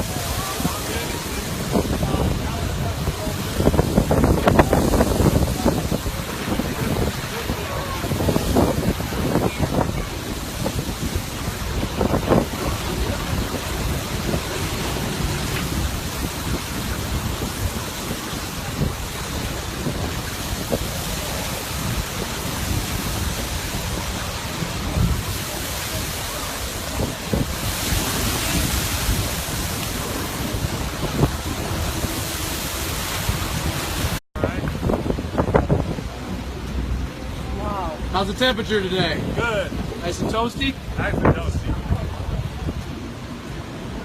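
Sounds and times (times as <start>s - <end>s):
sea surf: 0.0s - 44.0s
wind: 0.0s - 44.0s
wind buffeting microphone: 0.0s - 44.0s.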